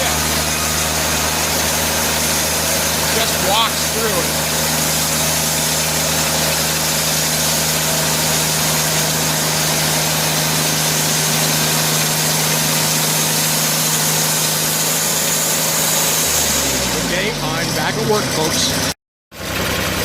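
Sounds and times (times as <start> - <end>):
sawmill blade cutting log: 0.0 - 20.0.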